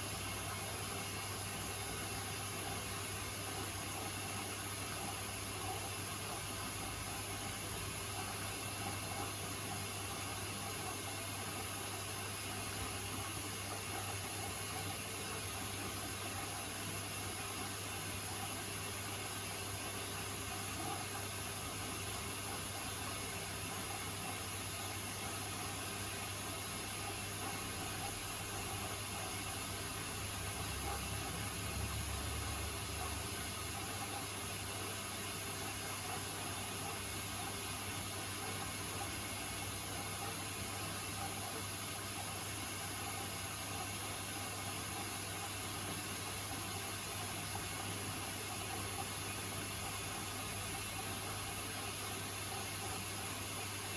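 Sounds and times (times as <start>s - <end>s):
washing machine humming: 0.0s - 53.9s.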